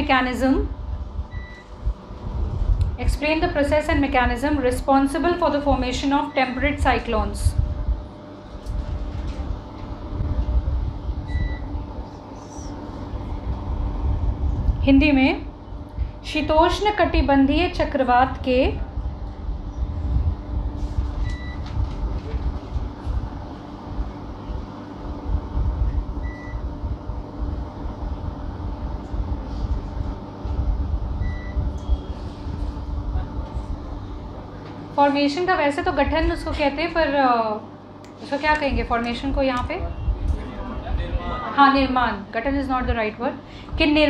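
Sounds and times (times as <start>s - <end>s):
faint hum: 0.0s - 44.0s
low room rumble: 0.0s - 44.0s.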